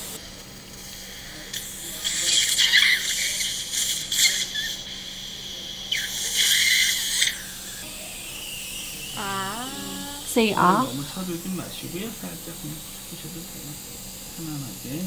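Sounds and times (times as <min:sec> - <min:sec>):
dental suction hissing: 0:00.1 - 0:15.0.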